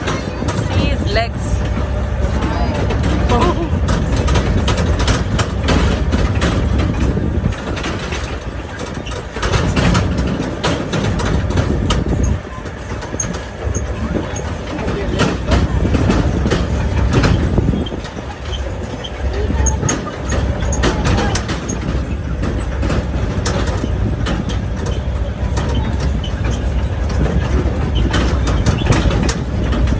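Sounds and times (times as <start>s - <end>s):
sharp rattles and knocks: 0.0s - 29.9s
tractor engine rumbling: 0.0s - 29.9s.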